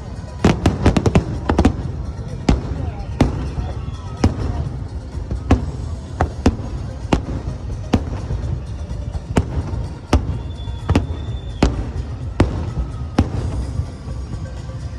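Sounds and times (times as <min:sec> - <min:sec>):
fireworks bangs: 0:00.1 - 0:14.9.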